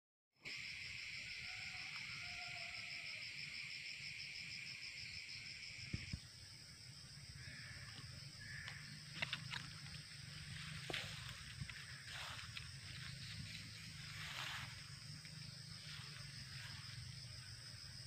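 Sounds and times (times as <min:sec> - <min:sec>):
fast-pulsing insect call: 0:00.4 - 0:18.0
insects droning: 0:00.4 - 0:18.0.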